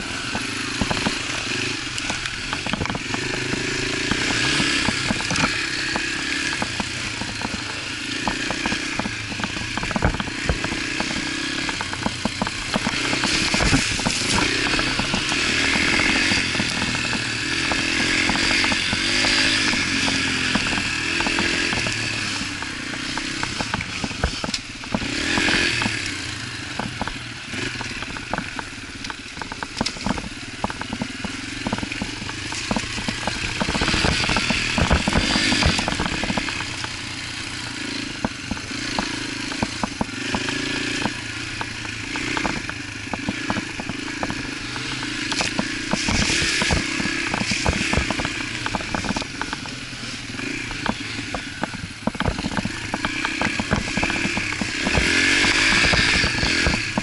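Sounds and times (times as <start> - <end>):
bike clicks and rattles: 0.0 - 57.0
dirt bike engine revving: 0.0 - 57.0.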